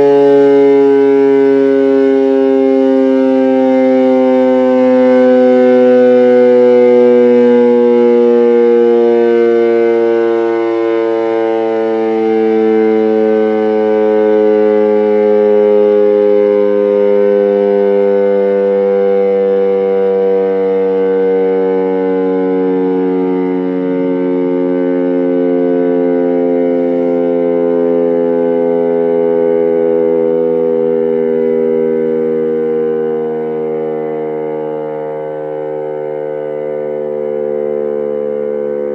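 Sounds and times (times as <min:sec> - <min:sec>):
electric motor siren wailing: 0:00.0 - 0:38.9.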